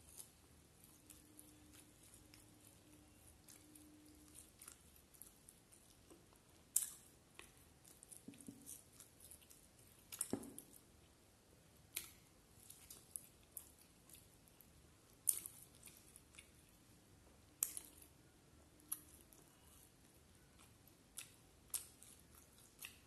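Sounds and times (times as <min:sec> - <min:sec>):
person chewing: 0:00.0 - 0:10.8, 0:11.9 - 0:16.8, 0:18.8 - 0:23.0.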